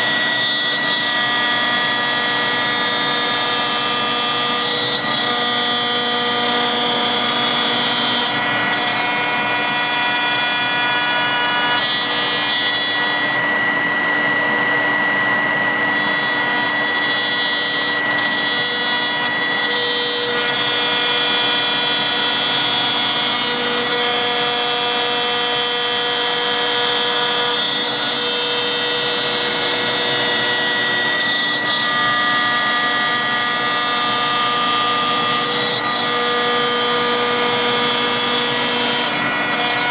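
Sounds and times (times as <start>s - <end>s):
router spindle whine: 0.0s - 39.9s
rushing noise of cutting wood: 0.0s - 39.9s.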